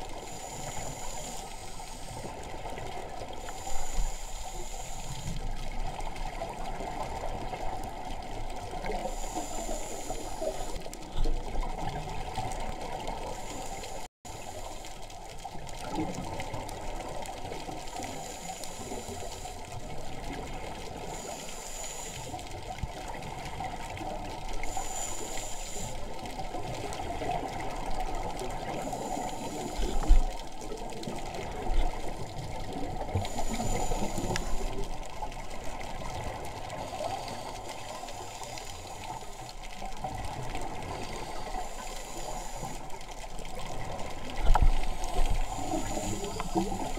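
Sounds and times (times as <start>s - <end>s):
muffled underwater water rush: 0.0s - 46.9s.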